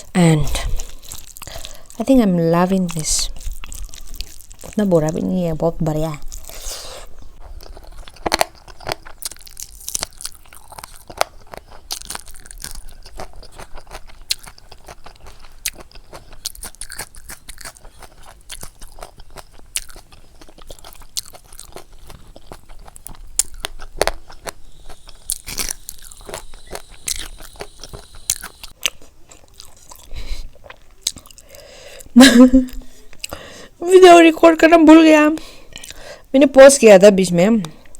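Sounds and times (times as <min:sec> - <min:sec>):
person eating crunching and chewing: 0:00.0 - 0:05.4, 0:06.2 - 0:33.5.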